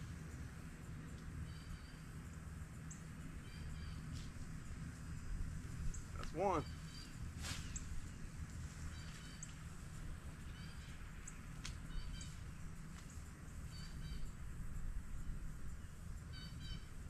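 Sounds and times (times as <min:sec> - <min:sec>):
bird chirping: 0:00.3 - 0:04.2, 0:05.8 - 0:09.7, 0:10.4 - 0:12.8, 0:13.4 - 0:17.0.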